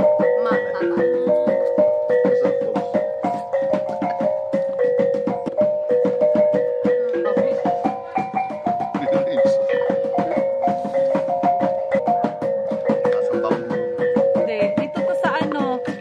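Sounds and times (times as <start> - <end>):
music with percussive beat: 0.0 - 16.0.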